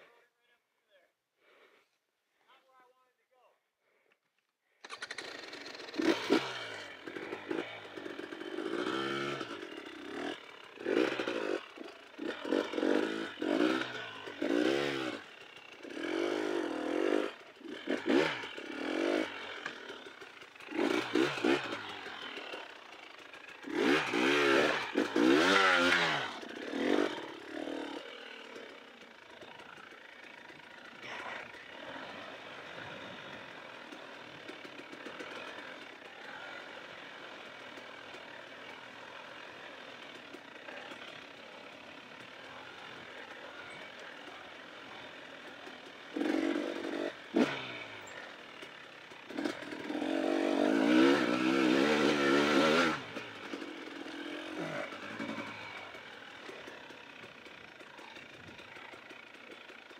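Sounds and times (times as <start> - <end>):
dirt bike engine revving: 4.8 - 59.9.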